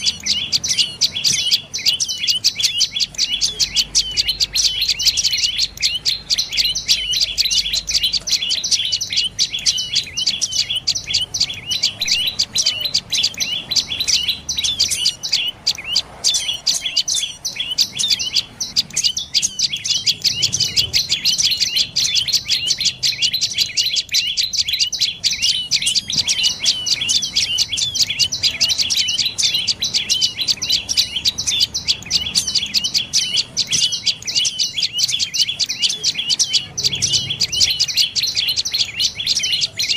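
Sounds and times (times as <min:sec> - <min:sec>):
bird calling with high sharp notes: 0:00.0 - 0:39.9.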